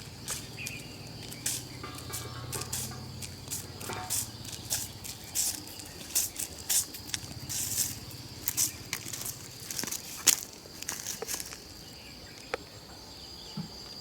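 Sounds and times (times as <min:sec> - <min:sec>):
dry leaves crackling and rustling: 0:00.0 - 0:12.5
high-pitched insect trill: 0:00.0 - 0:14.0.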